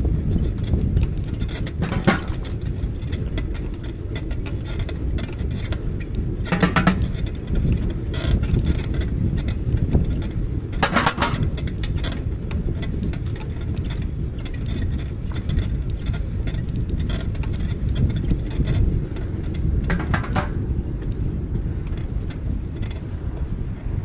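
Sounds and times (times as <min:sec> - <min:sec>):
crackling rustle: 0:00.0 - 0:24.0
wind noise on microphone: 0:00.0 - 0:24.0.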